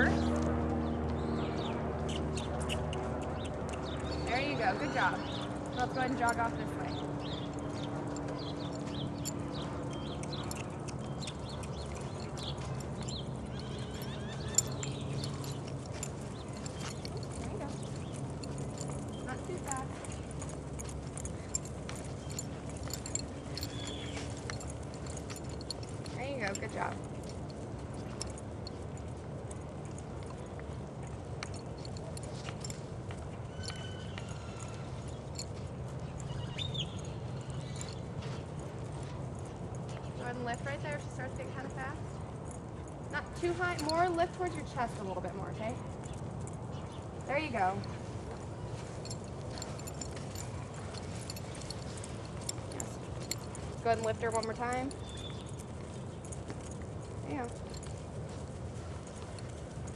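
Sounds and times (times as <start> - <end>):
hooves clip-clopping on dirt: 0.0 - 59.9.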